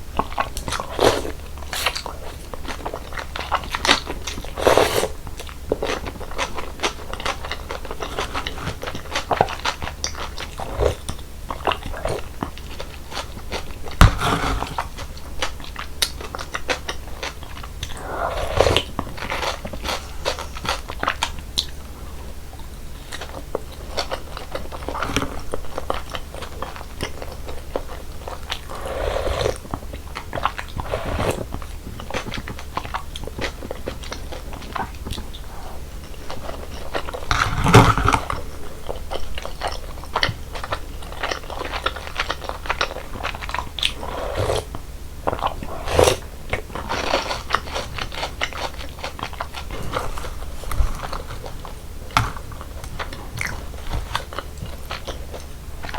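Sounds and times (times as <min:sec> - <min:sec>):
chewing and crunching noodles: 0:00.0 - 0:55.9.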